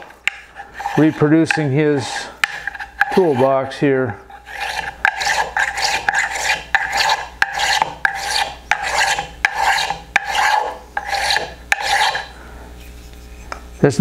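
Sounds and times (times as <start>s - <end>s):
hand plane cutting wood: 0.0s - 3.7s, 4.3s - 12.3s.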